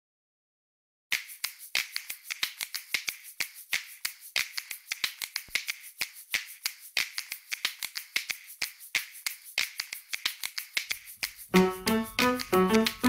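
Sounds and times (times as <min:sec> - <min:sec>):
finger snaps: 0:01.1 - 0:13.0.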